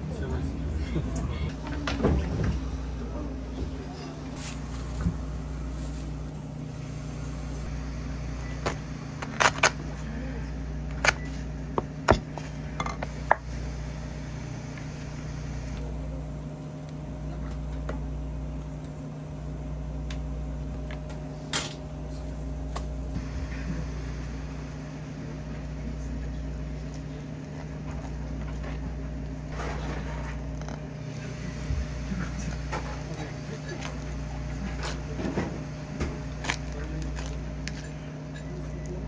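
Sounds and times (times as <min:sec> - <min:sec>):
mechanical hum of kitchen equipment: 0:00.0 - 0:39.0.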